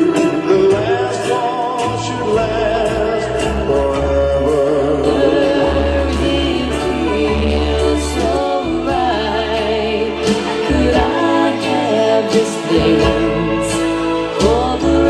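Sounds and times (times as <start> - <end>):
dance music with singing: 0.0 - 15.0.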